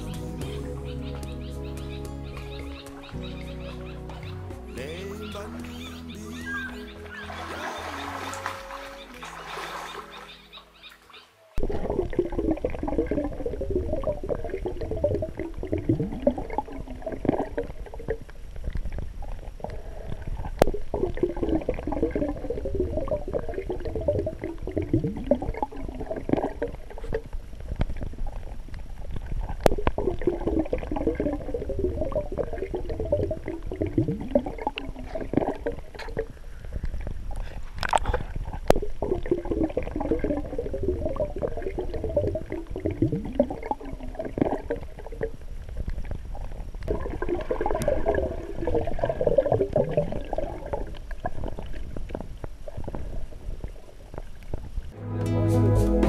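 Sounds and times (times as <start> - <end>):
water gurgling and sloshing: 5.5 - 55.0.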